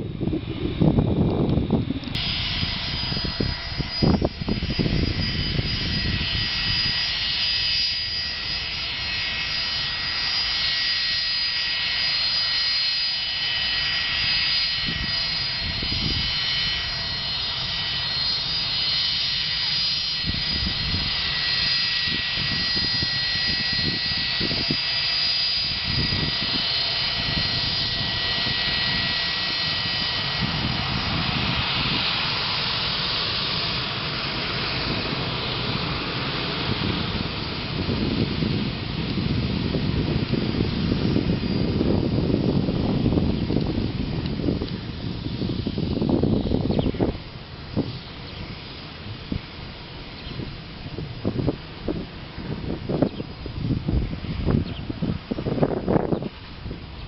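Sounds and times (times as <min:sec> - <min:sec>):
jet engines taxiing: 0:00.0 - 0:57.0.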